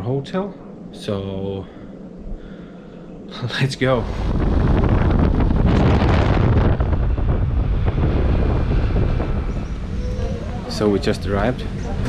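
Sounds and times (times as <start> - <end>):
low rumble: 0.0 - 12.0
wind rushing over microphone: 0.0 - 12.0.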